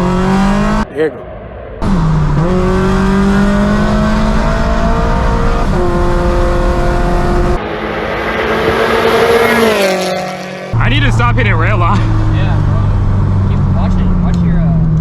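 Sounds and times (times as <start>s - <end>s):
car engine at full throttle: 0.0s - 0.9s, 1.8s - 15.0s.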